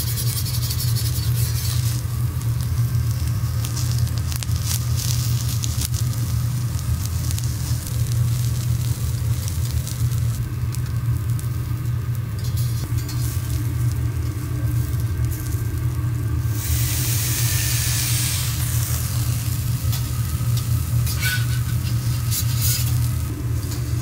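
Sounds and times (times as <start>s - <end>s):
vegetables sizzling on a griddle: 0.0s - 24.0s
low rumble: 1.5s - 24.0s.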